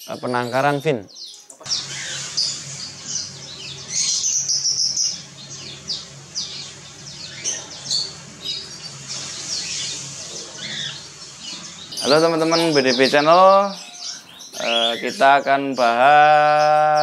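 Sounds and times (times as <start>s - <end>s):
finches chirping: 0.0s - 17.0s
loud high bird call: 1.3s - 17.0s.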